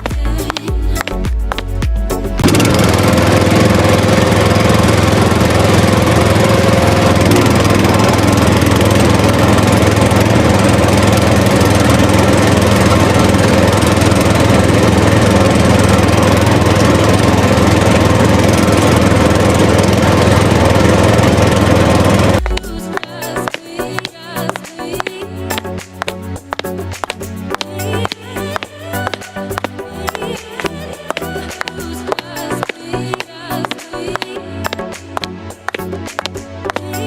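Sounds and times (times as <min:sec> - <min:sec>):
motor humming: 0:00.0 - 0:37.0.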